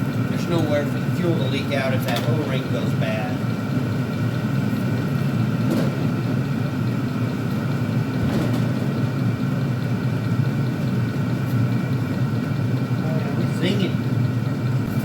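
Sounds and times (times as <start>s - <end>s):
heater combustion rumble: 0.0s - 15.0s.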